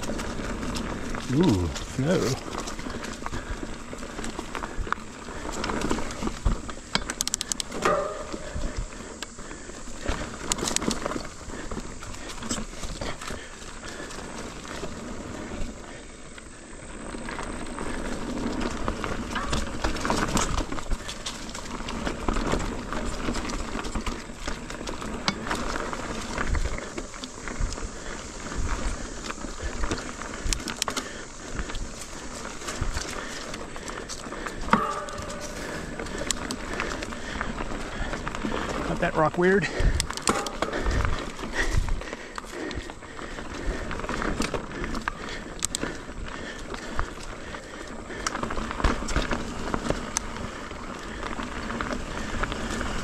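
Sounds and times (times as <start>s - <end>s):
bike rattling clicks and knocks: 0.0s - 53.0s
bike tyres rolling over dirt: 0.0s - 53.0s.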